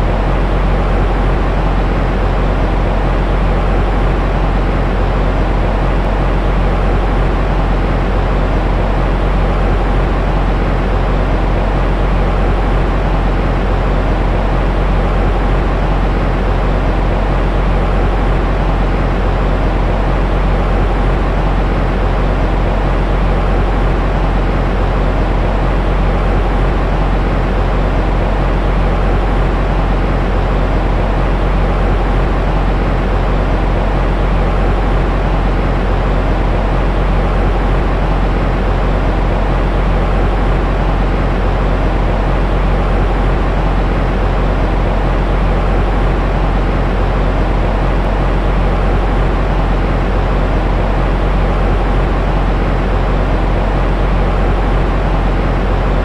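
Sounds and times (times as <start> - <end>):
low rumbling white noise: 0.0 - 56.0.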